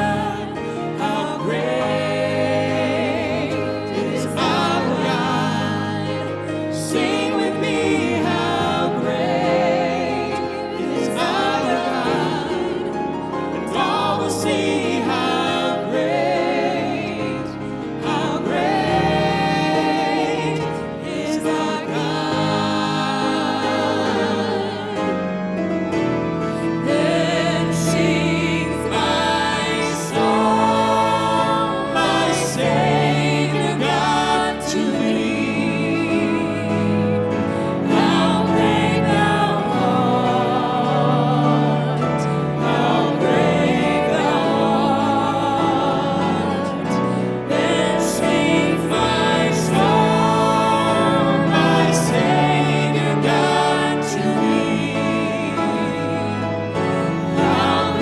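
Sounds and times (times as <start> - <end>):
instrumental accompaniment: 0.0 - 58.0
voices singing a hymn: 0.0 - 58.0.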